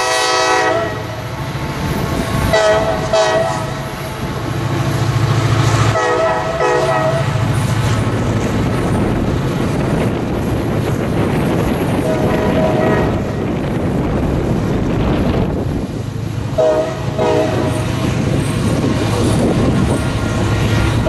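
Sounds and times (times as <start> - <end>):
train rumble with wheel clatter: 0.0 - 21.0.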